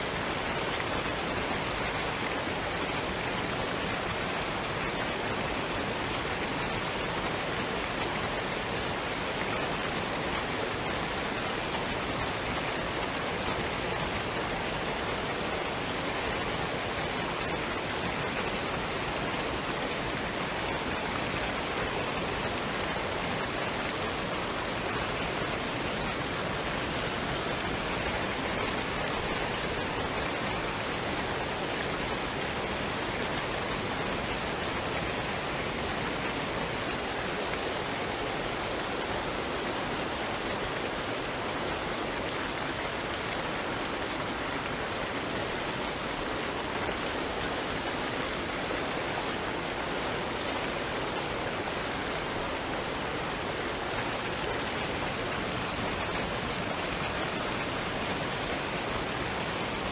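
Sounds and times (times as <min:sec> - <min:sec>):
waterfall and stream rushing: 0:00.0 - 0:59.9.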